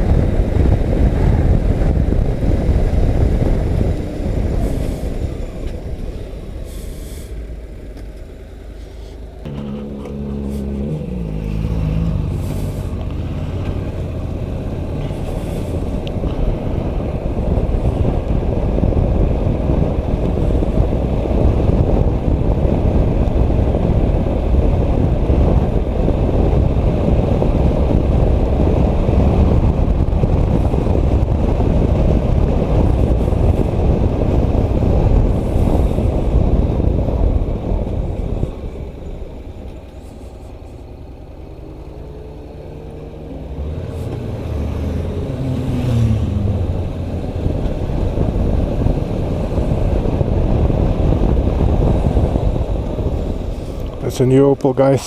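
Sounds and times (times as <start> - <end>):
motorcycle engine: 0.0 - 54.0
wind buffeting microphone: 0.0 - 55.0.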